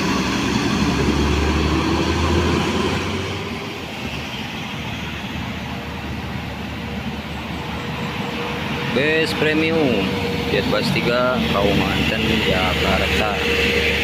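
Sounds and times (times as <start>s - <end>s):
bus diesel engine passing: 0.0s - 14.0s
road and tyre noise: 0.0s - 14.0s.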